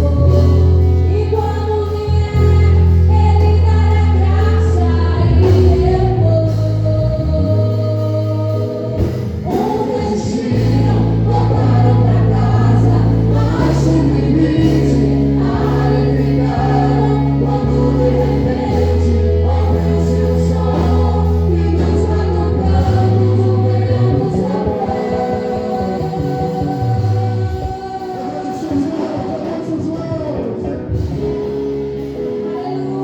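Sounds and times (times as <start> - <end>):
voices singing together: 0.0 - 29.9
long held bass notes: 0.0 - 33.0.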